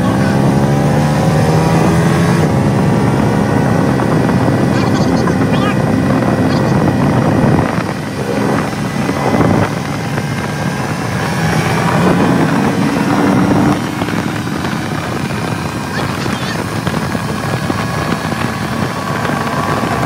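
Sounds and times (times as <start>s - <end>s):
road and wind noise: 0.0s - 20.0s
vehicle engine droning: 0.0s - 20.0s.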